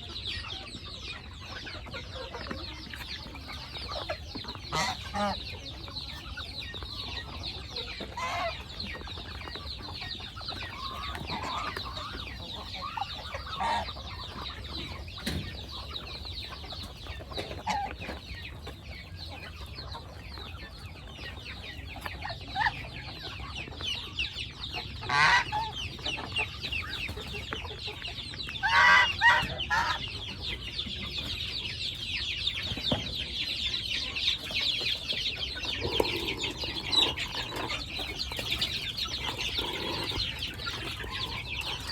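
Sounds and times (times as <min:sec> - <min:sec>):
chickens clucking and calling: 0:00.0 - 0:41.9.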